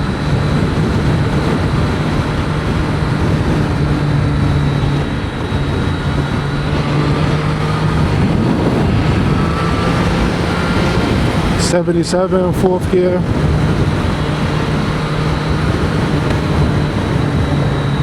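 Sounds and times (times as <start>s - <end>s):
wind noise: 0.0s - 18.0s
motorcycle engine pulling: 0.1s - 18.0s.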